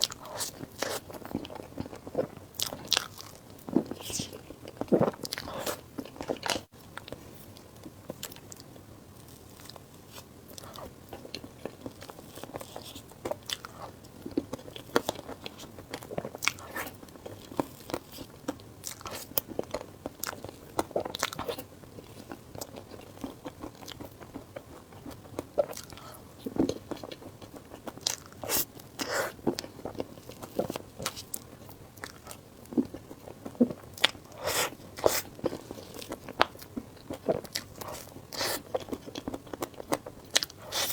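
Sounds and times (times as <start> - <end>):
biting and chewing crunches: 0.0 - 7.2, 10.6 - 40.9.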